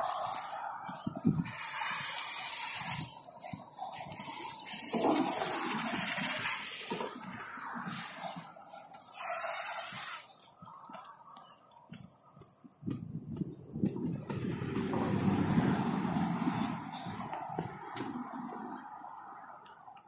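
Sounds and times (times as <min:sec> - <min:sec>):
bicycle tyres rolling on concrete: 0:00.0 - 0:20.0.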